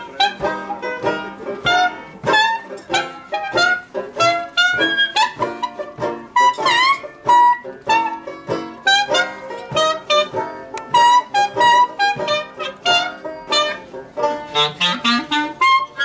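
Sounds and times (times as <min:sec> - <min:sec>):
banjo picking: 0:00.0 - 0:16.0
clarinet playing: 0:00.0 - 0:16.0.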